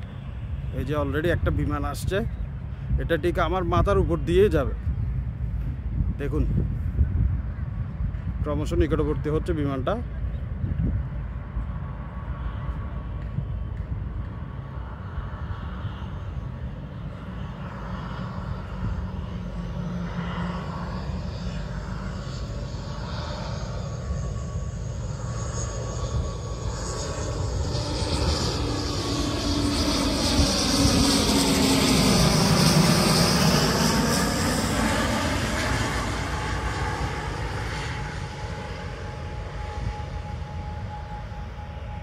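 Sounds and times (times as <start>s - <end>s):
airliner flying over: 0.0s - 42.0s.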